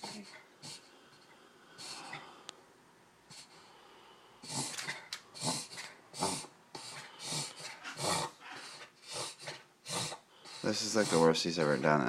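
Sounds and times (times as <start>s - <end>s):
dog breathing noisily: 0.0s - 2.5s, 3.3s - 12.0s.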